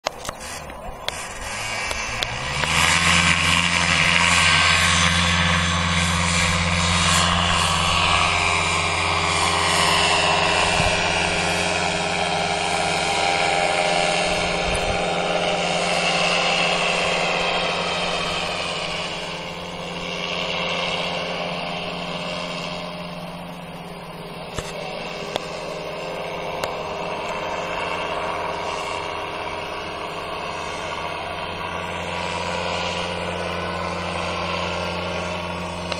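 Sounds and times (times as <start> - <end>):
paramotor engine and propeller hum: 0.0 - 35.9.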